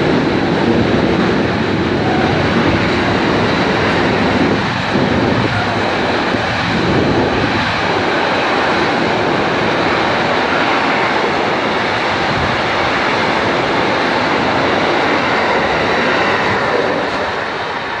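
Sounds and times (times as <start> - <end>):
freight train wheels rumbling on rails: 0.0 - 18.0.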